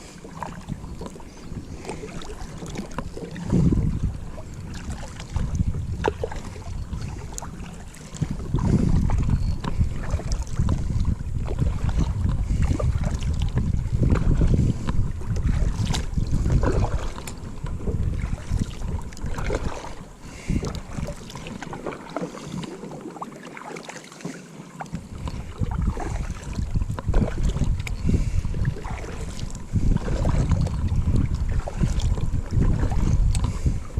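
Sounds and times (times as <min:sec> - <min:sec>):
wind buffeting microphone: 0:00.0 - 0:22.8, 0:24.9 - 0:33.9
knocks and clicks from boat: 0:00.2 - 0:33.9.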